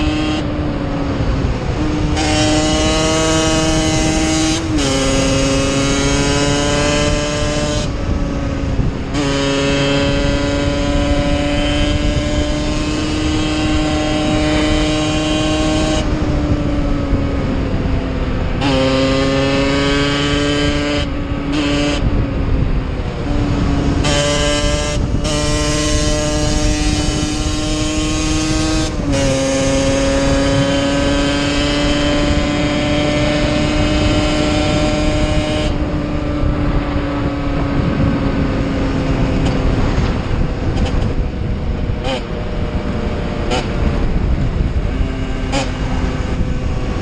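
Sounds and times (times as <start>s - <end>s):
two-stroke motorcycle engine: 0.0s - 47.0s
wind noise: 0.0s - 47.0s.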